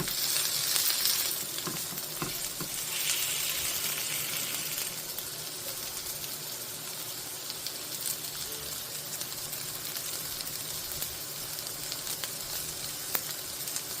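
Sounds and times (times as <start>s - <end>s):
pancakes sizzling in oil: 0.0s - 14.0s.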